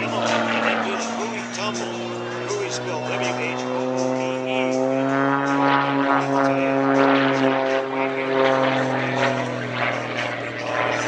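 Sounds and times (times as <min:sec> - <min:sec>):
propeller plane engine drone: 0:00.0 - 0:11.0.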